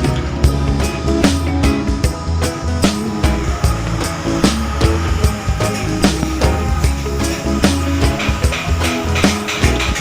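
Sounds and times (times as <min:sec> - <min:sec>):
music with beat and plucked strings: 0:00.0 - 0:10.0.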